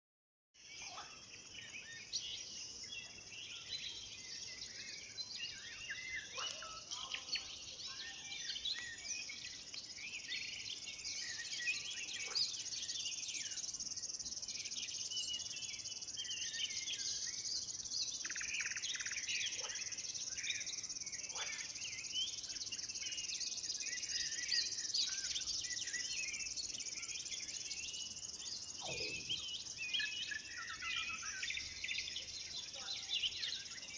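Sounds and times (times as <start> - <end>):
songbirds singing: 0.6 - 33.9.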